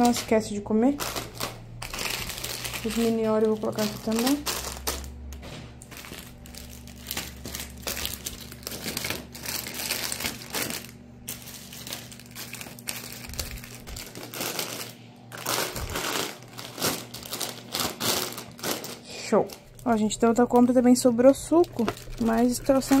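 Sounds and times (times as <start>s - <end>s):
plastic packages crinkling: 0.0s - 23.0s.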